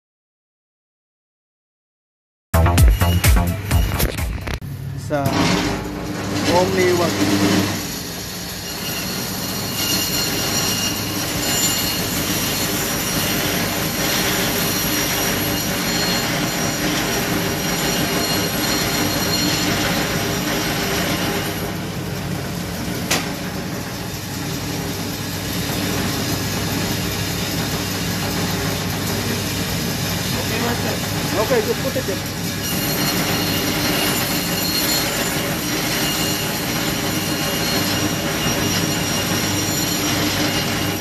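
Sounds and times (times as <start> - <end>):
band saw cutting meat: 5.2 - 23.6, 24.3 - 41.0.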